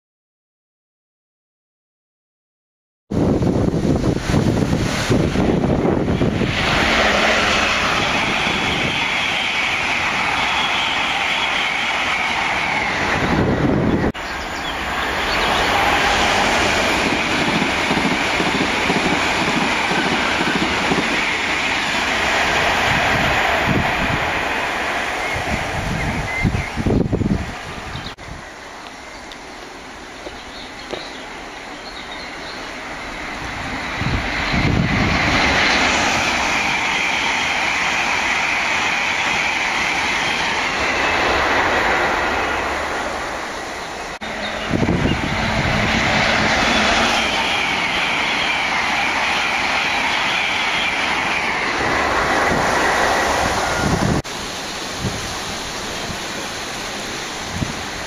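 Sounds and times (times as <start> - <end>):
trains passing at speed: 3.1 - 58.0.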